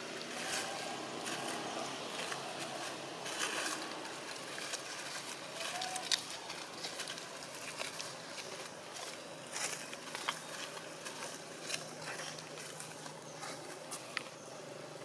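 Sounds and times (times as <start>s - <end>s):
small clicks and rustles: 2.2s - 14.4s.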